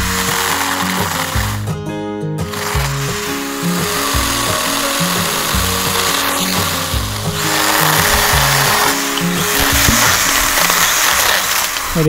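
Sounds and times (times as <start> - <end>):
chainsaw cutting branch: 0.0 - 1.8, 2.4 - 12.0
background music with bass: 0.0 - 12.0.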